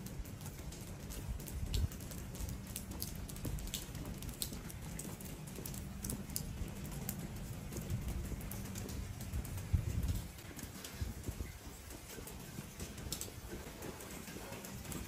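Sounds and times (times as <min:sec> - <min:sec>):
footsteps on wet stone: 0:00.0 - 0:15.0
raindrop taps: 0:00.0 - 0:15.0.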